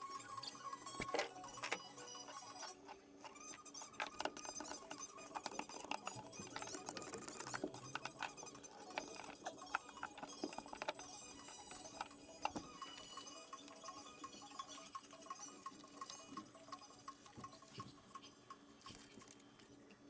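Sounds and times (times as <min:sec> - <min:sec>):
rapid faint clicks and taps: 0:00.9 - 0:20.0.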